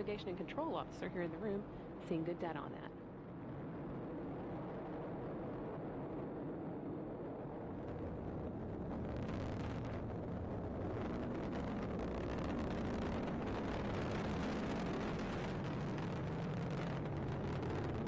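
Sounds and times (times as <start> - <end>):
rocket exhaust rumble: 0.0 - 18.0.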